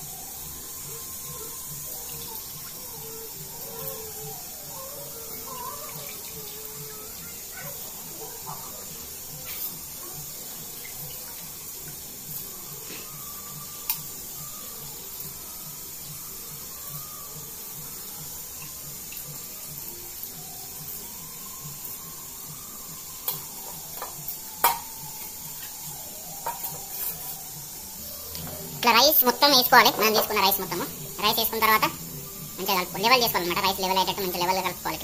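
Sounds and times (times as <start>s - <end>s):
water boiling in metal pot: 0.0s - 35.0s.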